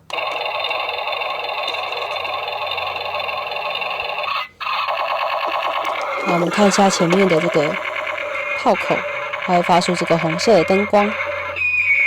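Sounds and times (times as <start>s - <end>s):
toy electronic gunfire effect: 0.0s - 12.0s.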